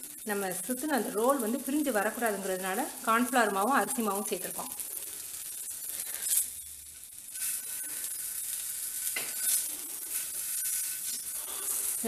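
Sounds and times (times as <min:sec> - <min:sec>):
bread roll sizzling in pan: 0:00.0 - 0:12.0.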